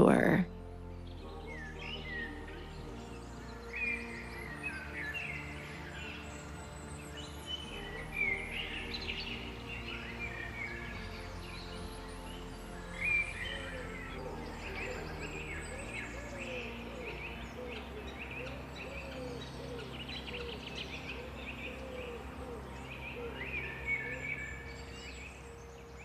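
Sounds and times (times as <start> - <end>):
soft ambient music: 0.0 - 26.0
songbirds chirping and trilling: 0.0 - 26.0.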